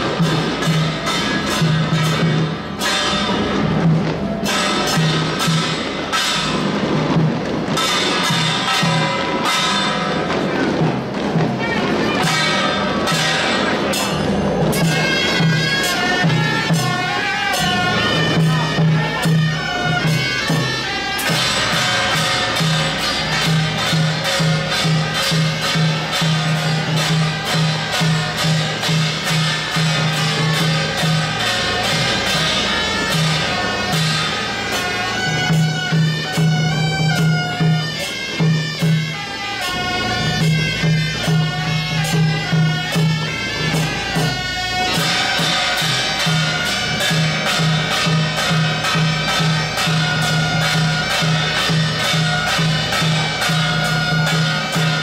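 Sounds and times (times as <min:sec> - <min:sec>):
cymbals and gongs clashing: 0:00.0 - 0:55.0
shawm melody: 0:00.0 - 0:55.0.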